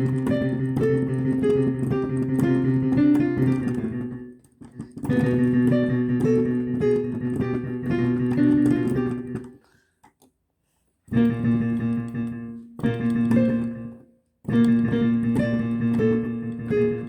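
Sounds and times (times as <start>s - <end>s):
piano chords: 0.0s - 9.6s, 11.1s - 17.0s.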